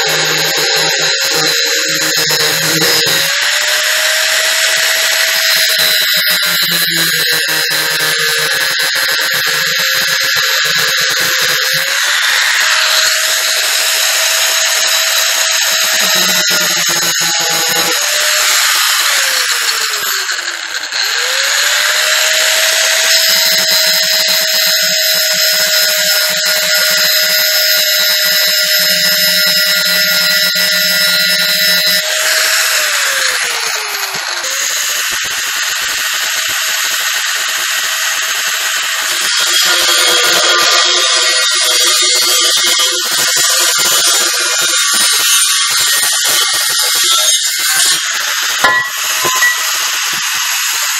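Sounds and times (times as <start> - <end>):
angle grinder grinding metal: 0.0 - 50.9.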